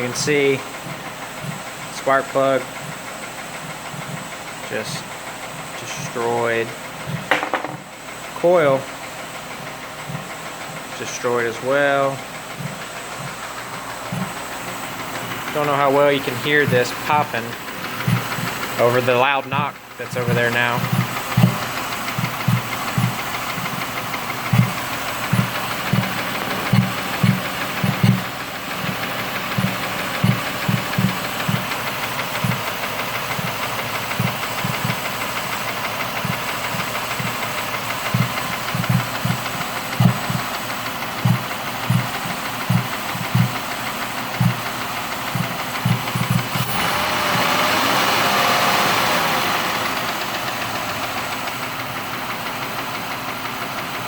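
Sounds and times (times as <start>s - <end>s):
irregular engine pops: 0.0s - 6.1s, 6.7s - 54.0s
engine idling with knock: 0.0s - 54.0s.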